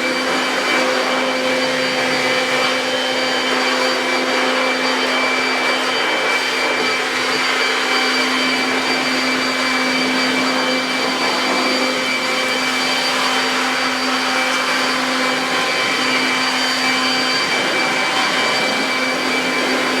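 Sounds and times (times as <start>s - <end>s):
electric leaf blower running: 0.0s - 20.0s.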